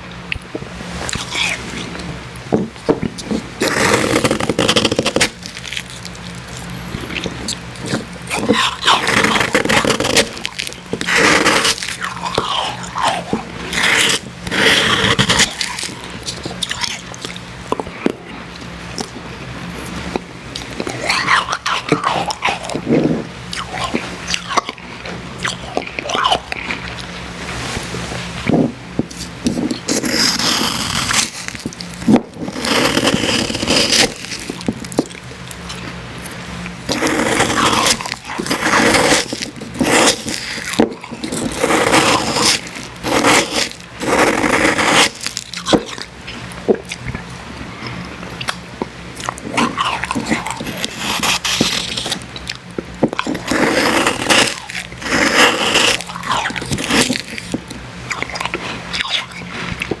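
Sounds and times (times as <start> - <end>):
crunching and chewing ice slush: 0.0 - 60.0.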